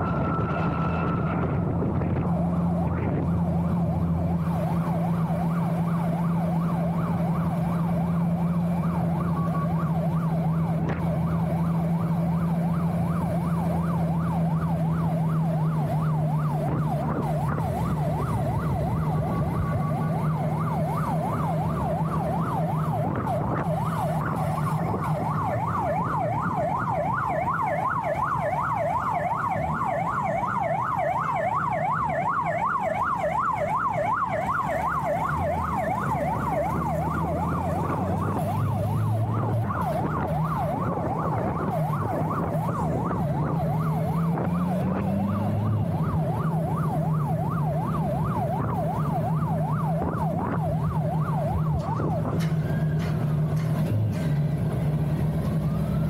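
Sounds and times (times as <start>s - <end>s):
motorcycle and road drone: 0.0s - 56.0s
motorcycle siren yelping: 0.0s - 56.0s.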